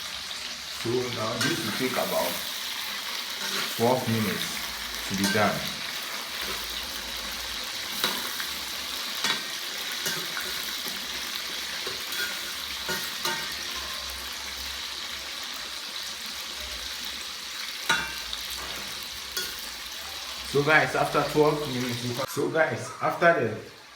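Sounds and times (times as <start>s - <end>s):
food sizzling in hot oil: 0.0s - 23.9s.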